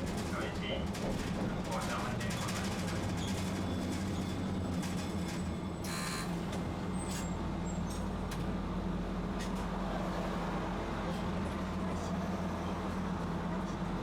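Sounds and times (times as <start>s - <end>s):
streetcar electric hum: 0.0s - 14.0s.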